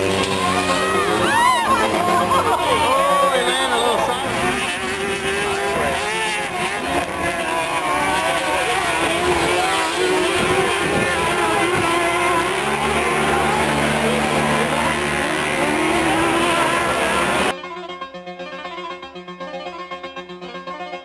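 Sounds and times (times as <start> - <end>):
low engine drone: 0.0 - 17.5
off-road vehicle engines revving: 0.0 - 17.5.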